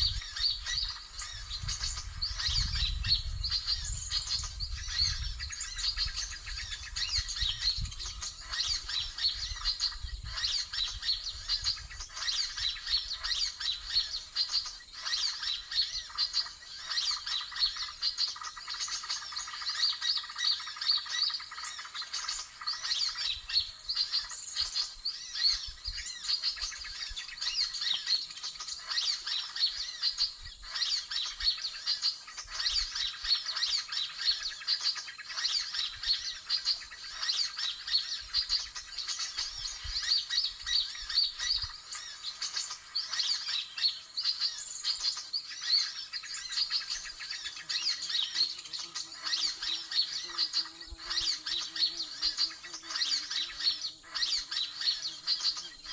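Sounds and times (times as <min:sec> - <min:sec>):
flock of small birds twittering: 0:00.0 - 0:55.9.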